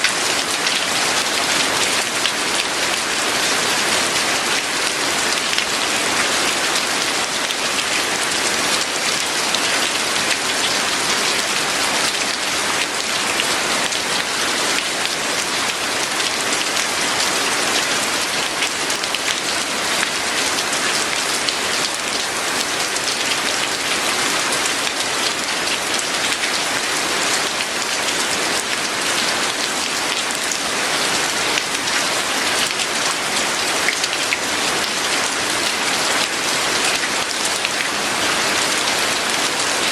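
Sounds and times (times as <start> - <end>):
raindrops pattering on a surface: 0.0 - 39.9
steady rain: 0.0 - 39.9.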